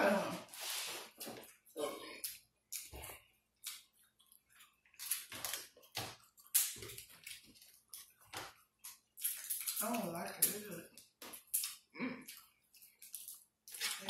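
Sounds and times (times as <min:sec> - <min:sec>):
person chewing seafood: 0:01.4 - 0:09.8, 0:11.0 - 0:14.0.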